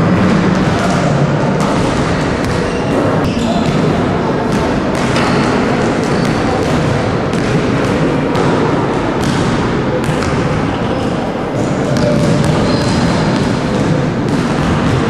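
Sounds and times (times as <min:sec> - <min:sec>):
basketballs bouncing on wooden floor: 0:00.0 - 0:11.0, 0:11.6 - 0:15.0.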